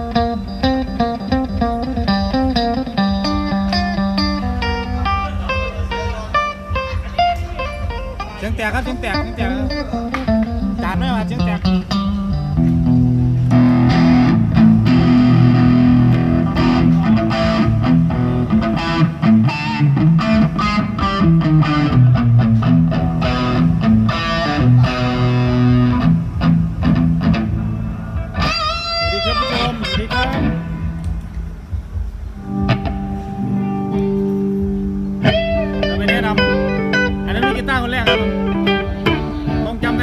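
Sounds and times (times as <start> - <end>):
distorted electric guitar: 0.0 - 40.0.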